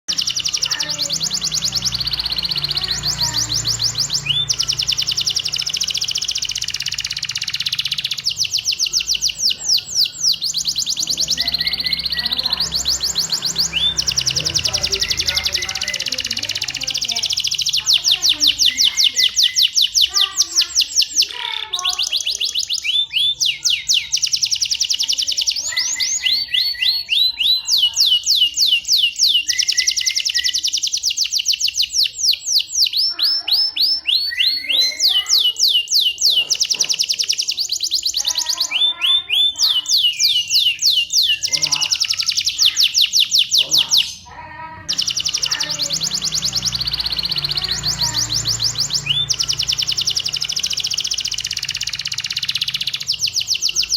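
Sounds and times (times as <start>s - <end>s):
canary singing fast trills: 0.0s - 53.9s.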